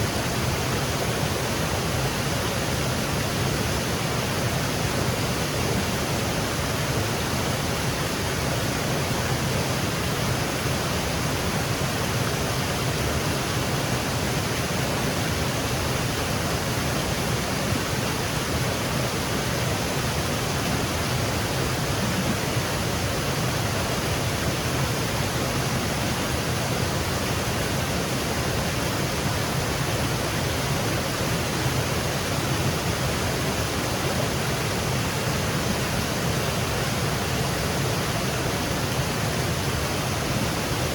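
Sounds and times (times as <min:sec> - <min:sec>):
waterfall cascading: 0:00.0 - 0:40.9.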